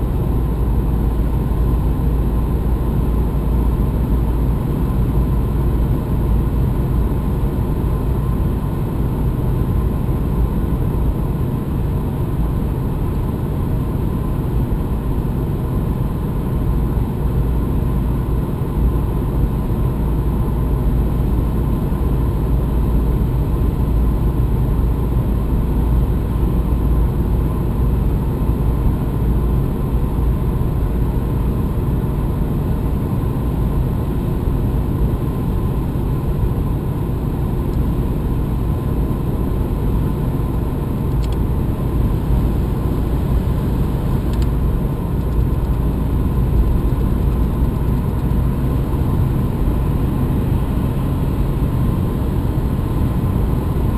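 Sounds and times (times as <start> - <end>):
car road noise at highway speed: 0.0 - 53.9.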